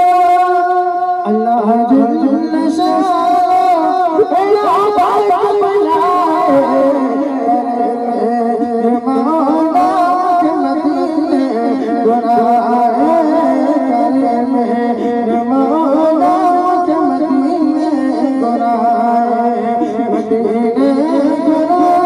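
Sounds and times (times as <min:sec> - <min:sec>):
men singing a chant over loudspeakers: 0:00.0 - 0:22.0.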